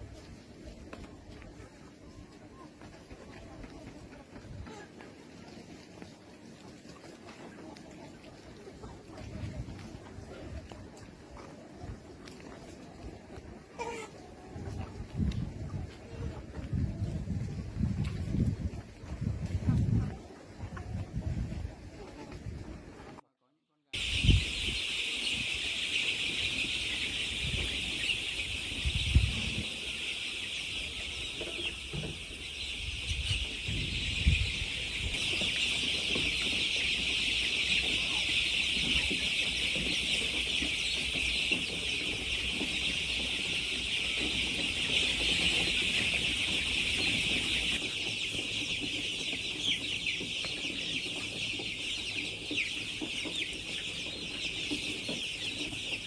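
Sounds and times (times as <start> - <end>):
chickens clucking: 0.0 - 23.3, 24.0 - 56.0.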